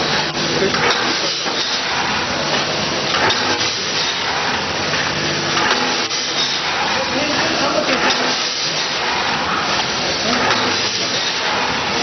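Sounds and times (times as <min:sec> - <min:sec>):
packaging machine hiss: 0:00.0 - 0:12.0.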